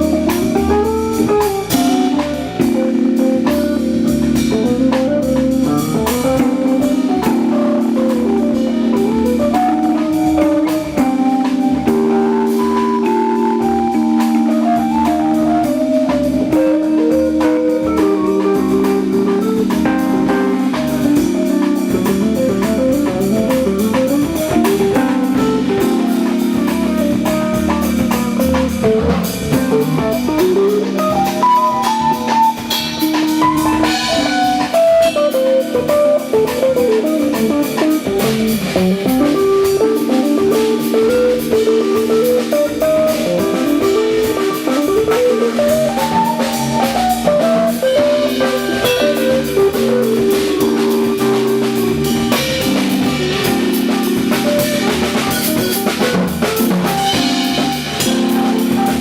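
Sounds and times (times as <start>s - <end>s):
drum kit: 0.0s - 59.0s
guitar melody: 0.0s - 59.0s
sustained keyboard chords: 0.0s - 59.0s.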